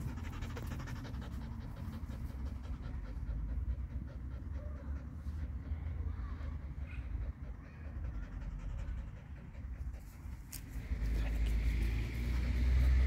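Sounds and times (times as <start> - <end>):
fox panting quickly: 0.0 - 12.6.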